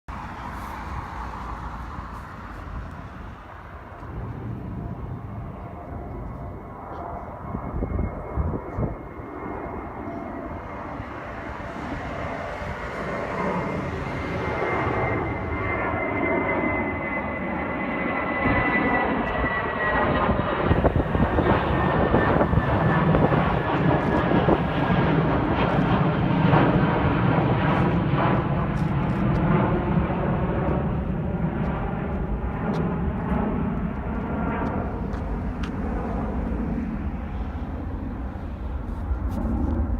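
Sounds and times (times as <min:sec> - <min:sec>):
airplane engine noise: 0:00.1 - 0:39.9.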